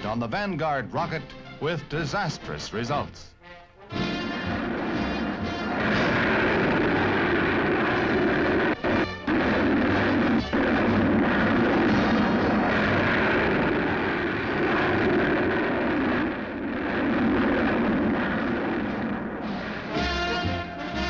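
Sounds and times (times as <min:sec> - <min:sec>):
rocket explosion roar: 0:03.9 - 0:21.0.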